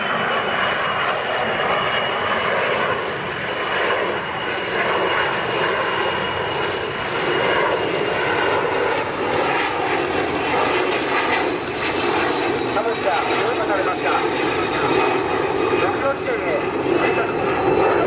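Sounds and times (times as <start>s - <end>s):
jet aircraft flying past: 0.0s - 18.0s.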